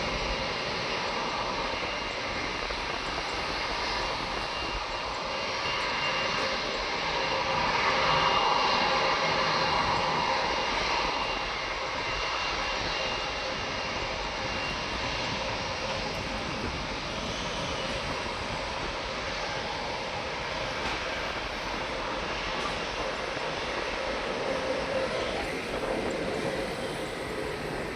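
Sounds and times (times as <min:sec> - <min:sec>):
jet engine rushing noise: 0:00.0 - 0:27.9
thin jet engine whine: 0:00.0 - 0:27.9.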